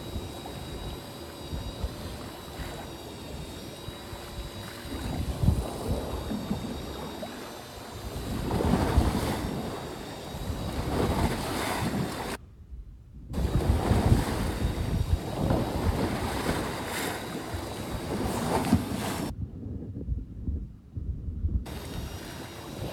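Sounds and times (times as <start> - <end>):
sea water washing: 0.0 - 12.4, 13.4 - 19.3, 21.7 - 22.9
wind buffeting microphone: 0.0 - 22.9.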